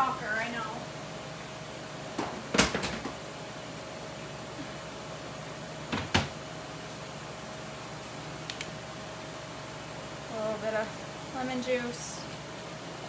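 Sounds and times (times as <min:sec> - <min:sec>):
grill fan humming: 0:00.0 - 0:13.0.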